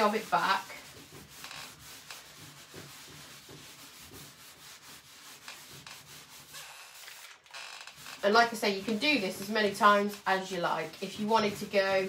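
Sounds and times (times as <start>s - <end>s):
cloth rubbing on wood: 0.0s - 12.0s.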